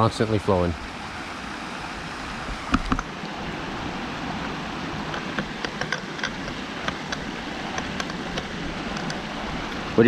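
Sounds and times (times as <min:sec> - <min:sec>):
stream running: 0:00.0 - 0:10.0.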